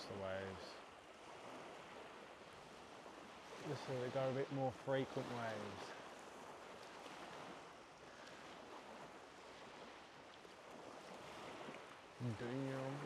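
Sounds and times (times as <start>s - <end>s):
small waves lapping on rocks: 0.0s - 13.0s.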